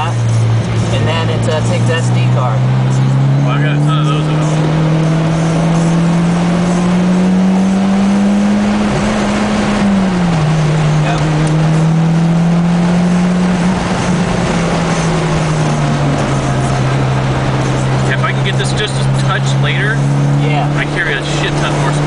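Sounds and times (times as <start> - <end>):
car engine accelerating: 0.0 - 22.0
road and wind noise: 0.0 - 22.0.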